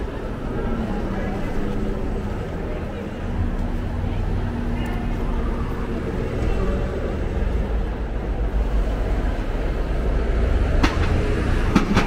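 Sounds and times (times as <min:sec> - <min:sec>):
bus engine running: 0:00.0 - 0:12.0
city street traffic rumble: 0:00.0 - 0:12.0.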